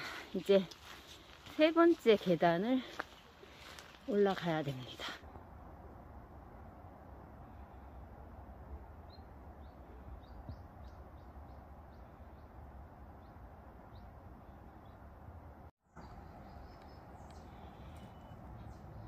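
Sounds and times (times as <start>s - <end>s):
songbirds chirping: 0.0s - 5.5s, 8.8s - 19.0s.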